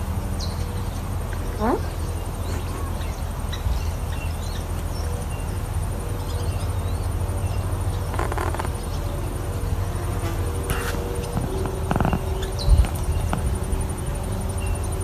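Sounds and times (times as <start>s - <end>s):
steady low hum: 0.0s - 15.0s
pet birds chirping: 0.4s - 15.0s.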